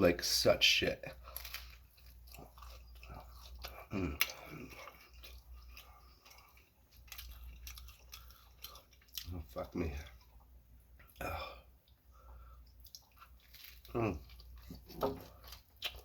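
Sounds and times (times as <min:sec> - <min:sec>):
chewing with mouth clicks: 0:01.1 - 0:16.0.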